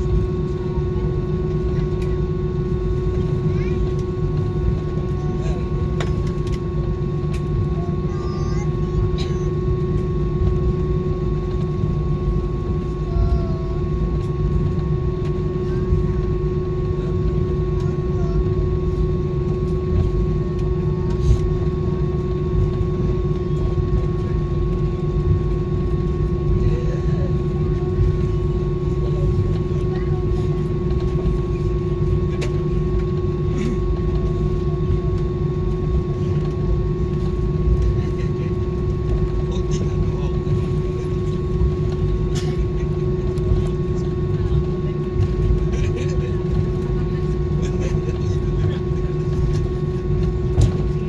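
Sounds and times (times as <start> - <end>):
airliner cabin rumble and hum: 0.0 - 51.0.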